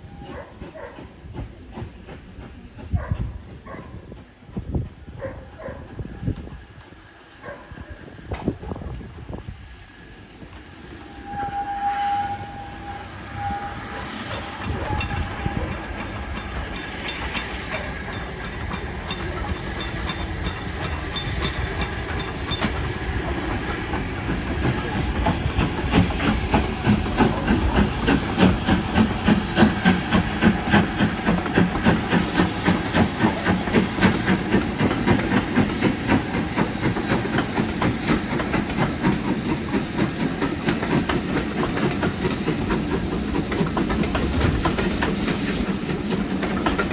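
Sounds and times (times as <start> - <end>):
steam locomotive rhythmic beat: 0.0 - 5.0, 10.9 - 46.9
hissing steam: 0.0 - 46.9.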